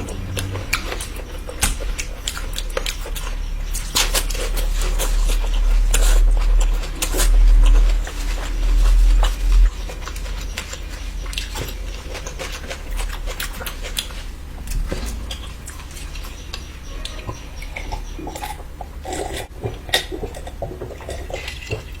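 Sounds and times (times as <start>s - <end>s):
low rumble: 0.0s - 3.8s, 4.4s - 18.8s
chewing food: 0.0s - 22.0s.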